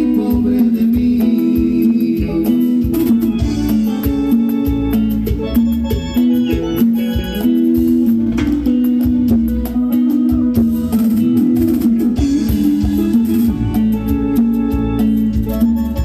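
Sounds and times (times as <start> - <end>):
keyboard chords: 0.0 - 16.0
live cumbia band playing: 0.0 - 16.0.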